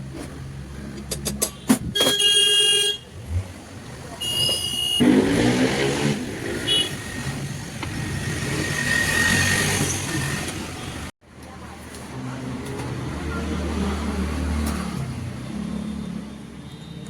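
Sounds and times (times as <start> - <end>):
steady road noise: 0.0 - 17.0.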